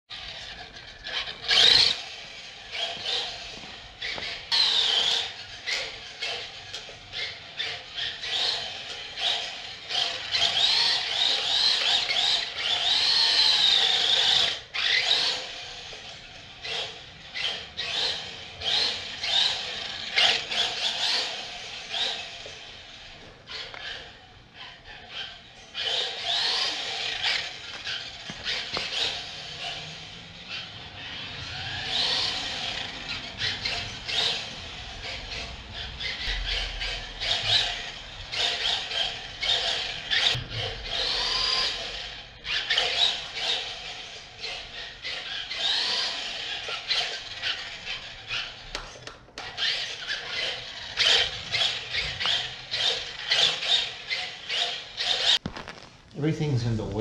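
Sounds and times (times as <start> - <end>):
toy car motor whining: 0.1 - 55.7.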